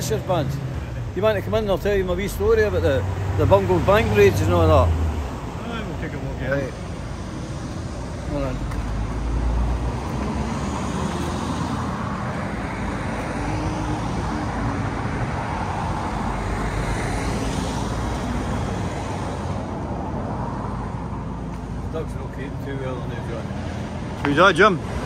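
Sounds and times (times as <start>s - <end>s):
vehicle passing: 0.0s - 21.4s
cars going by: 0.0s - 25.0s.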